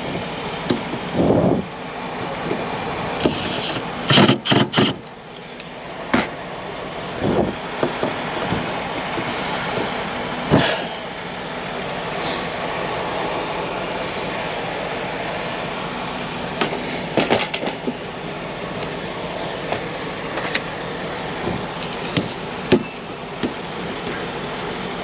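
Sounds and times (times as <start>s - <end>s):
rumbling machinery: 0.0s - 25.0s.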